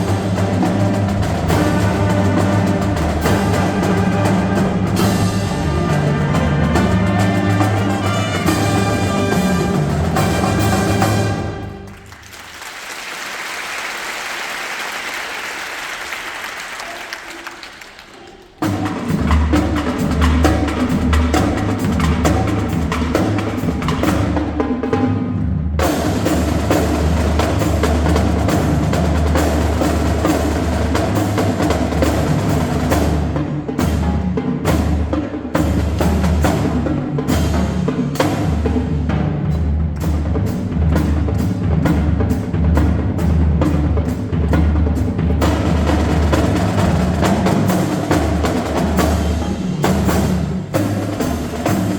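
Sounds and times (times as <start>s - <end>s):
marching band playing: 0.0s - 51.9s.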